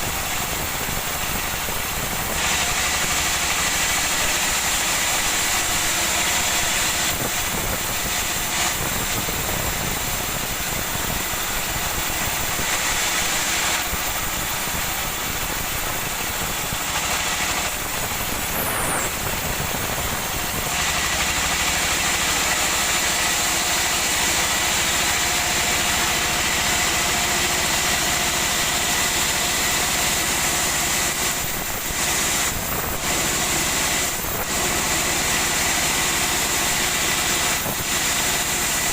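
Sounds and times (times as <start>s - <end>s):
high machine whine: 0.0s - 38.9s
sawmill machinery running: 0.0s - 38.9s.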